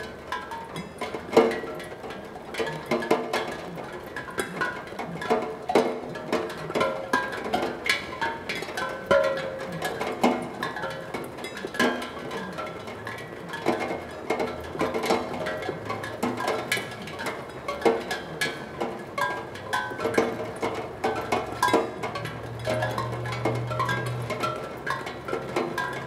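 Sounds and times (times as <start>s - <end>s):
raindrop ticks: 0.0s - 26.0s
raindrops ringing steel tongue drum: 0.0s - 26.0s.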